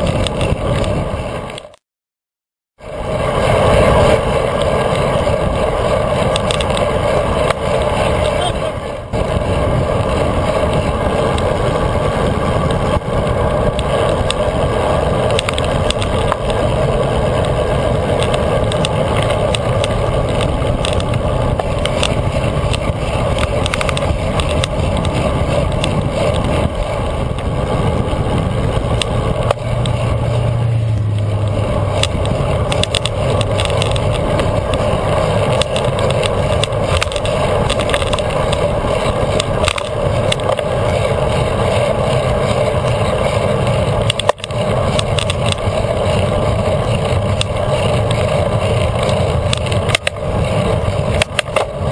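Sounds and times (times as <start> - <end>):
bicycle tyre noise: 0.0 - 1.8, 2.8 - 51.9
wind rush: 0.0 - 1.8, 2.8 - 51.9.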